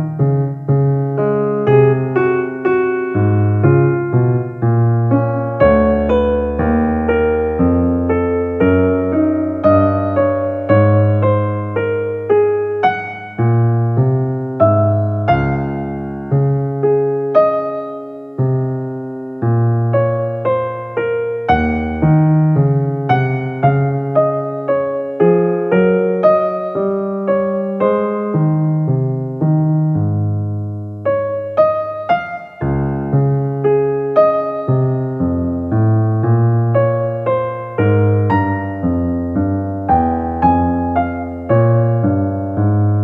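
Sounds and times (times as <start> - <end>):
slow gentle piano piece: 0.0 - 43.0.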